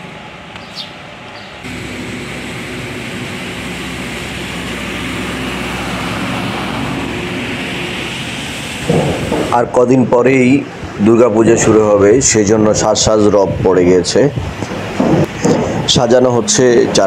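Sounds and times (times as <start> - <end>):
engine hum with hiss: 0.0 - 17.0
quiet street ambience: 0.0 - 17.0.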